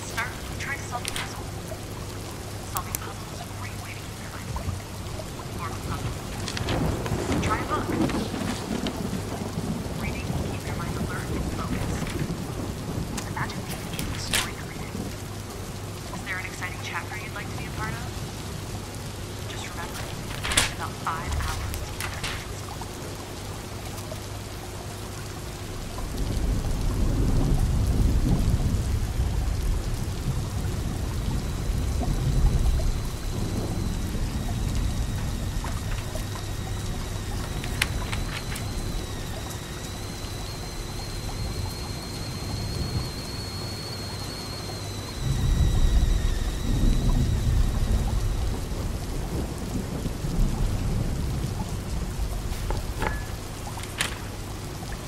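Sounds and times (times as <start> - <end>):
distant thunder rolling: 0.0 - 55.0
steady rain: 0.0 - 55.0.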